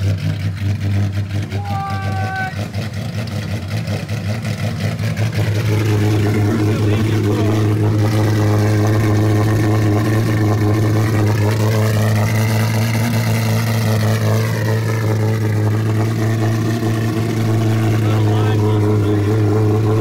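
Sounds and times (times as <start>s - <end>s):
car engine idling loudly: 0.0s - 20.0s
high engine whine: 0.0s - 20.0s.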